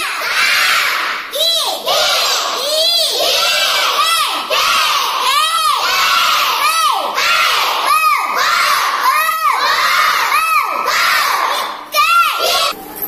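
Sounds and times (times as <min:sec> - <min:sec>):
children chanting in unison: 0:00.0 - 0:12.8.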